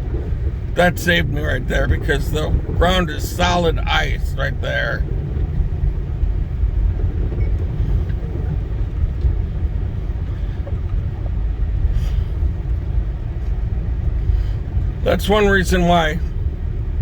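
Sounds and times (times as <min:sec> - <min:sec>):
car driving on snowy road: 0:00.0 - 0:17.0.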